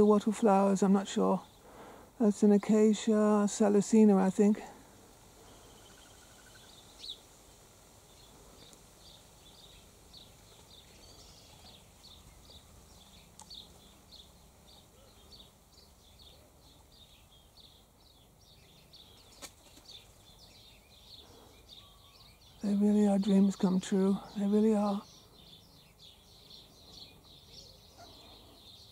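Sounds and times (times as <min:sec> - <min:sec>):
bird chirping: 0:05.4 - 0:28.9.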